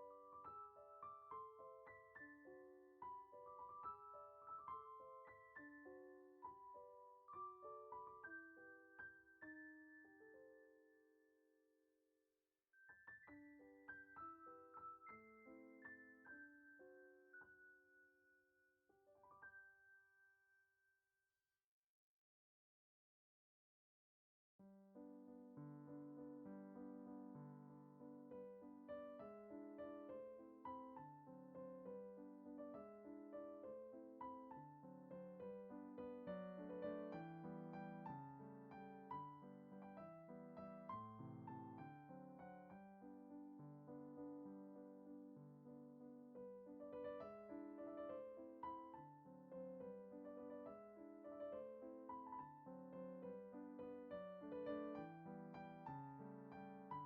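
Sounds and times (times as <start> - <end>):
gentle piano music: 0.0 - 11.4, 12.8 - 20.3, 24.6 - 57.0.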